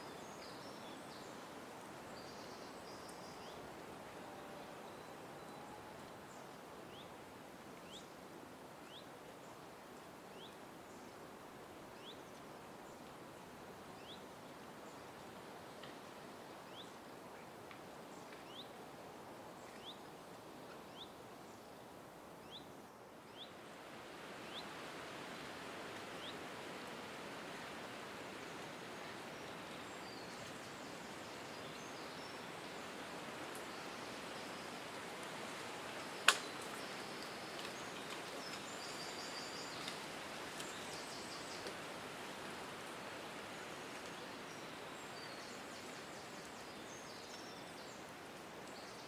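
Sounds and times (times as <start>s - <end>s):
outdoor background hiss: 0.0s - 49.0s.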